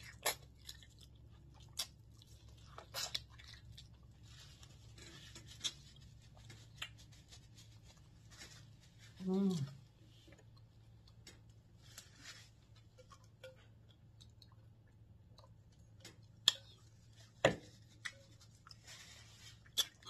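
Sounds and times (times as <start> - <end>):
soft chewing: 0.0 - 20.0.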